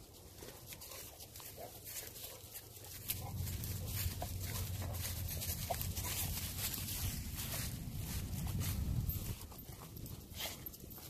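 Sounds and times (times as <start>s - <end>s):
dry leaves crackling underfoot: 0.0s - 10.4s.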